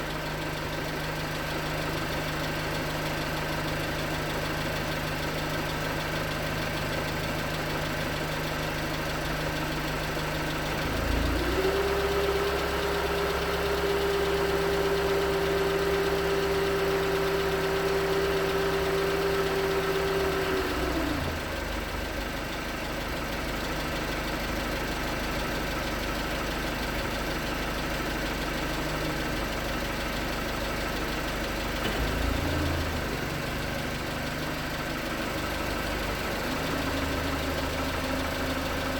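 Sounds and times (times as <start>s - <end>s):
car engine knocking and revving: 0.0s - 38.9s.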